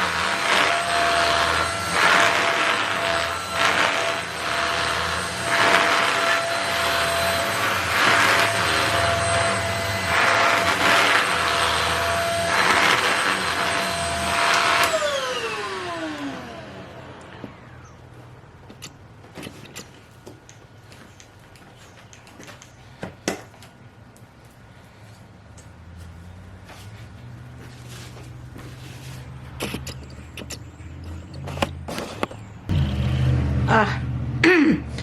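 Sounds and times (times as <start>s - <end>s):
handheld vacuum cleaner whining: 0.0s - 22.8s, 26.1s - 32.8s.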